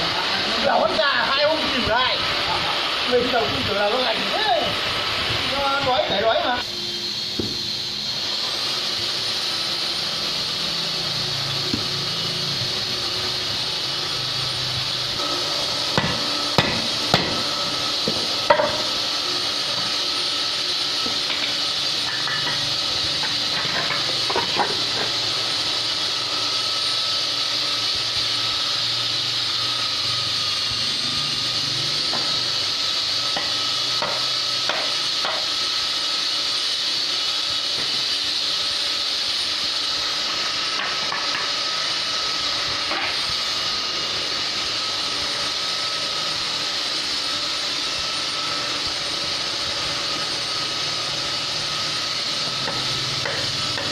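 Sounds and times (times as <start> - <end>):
machine hiss: 1.0 - 53.9.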